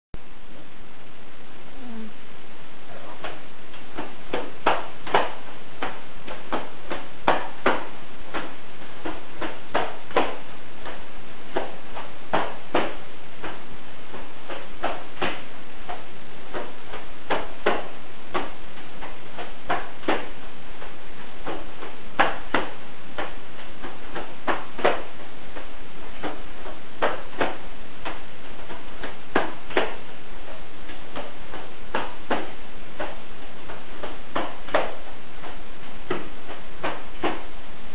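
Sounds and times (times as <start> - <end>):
steady hiss: 0.2 - 37.9.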